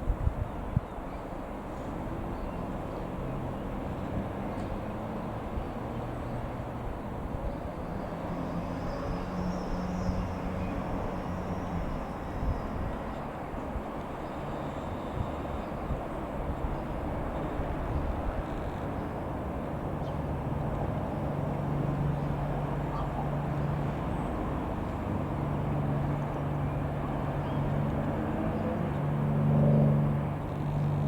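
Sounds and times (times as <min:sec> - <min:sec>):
light aircraft engine droning: 0:00.0 - 0:31.0
wind rumble on microphone: 0:00.0 - 0:31.0.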